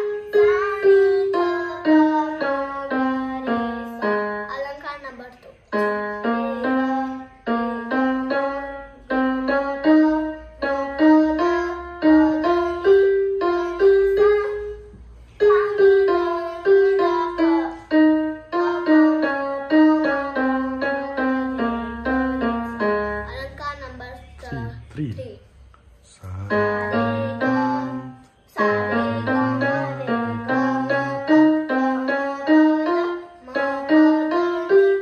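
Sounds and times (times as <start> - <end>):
keyboard playing scale in piano voice: 0.0 - 25.3, 26.2 - 35.0.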